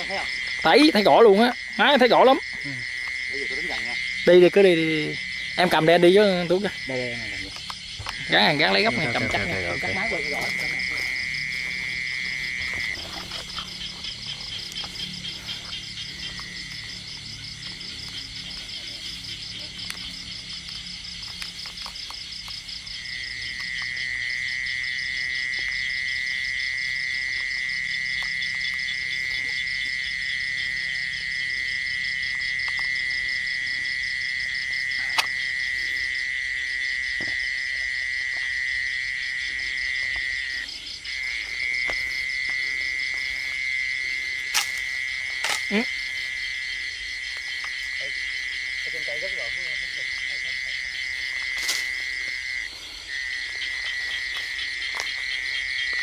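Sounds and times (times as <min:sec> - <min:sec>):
crickets and insects trilling: 0:00.0 - 0:56.0
loud steady insect trill: 0:00.0 - 0:56.0.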